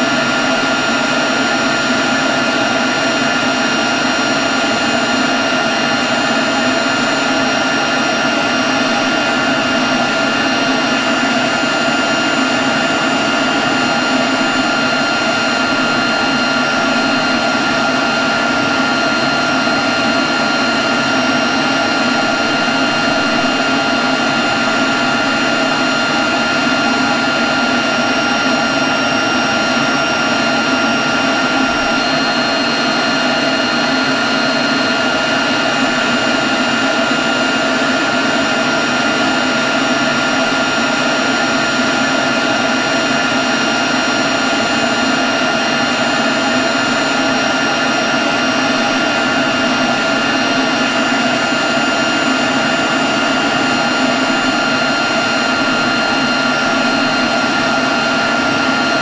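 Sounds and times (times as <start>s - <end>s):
leaf blower running: 0.0s - 59.0s.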